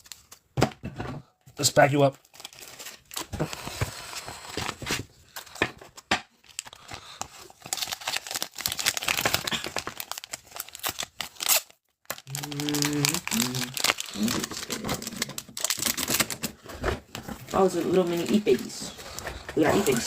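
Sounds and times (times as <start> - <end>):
plastic packaging crinkling: 2.2 - 5.6, 6.4 - 20.0.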